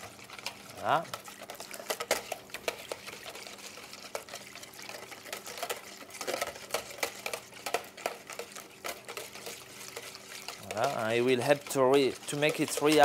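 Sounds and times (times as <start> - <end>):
liquid sloshing: 0.0 - 13.0
whisk clicking against bowl: 0.0 - 13.0.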